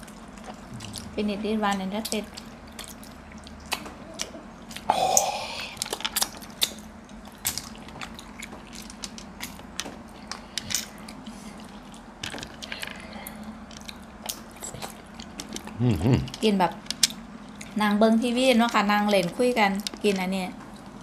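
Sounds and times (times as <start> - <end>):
chewing: 0.0 - 17.8.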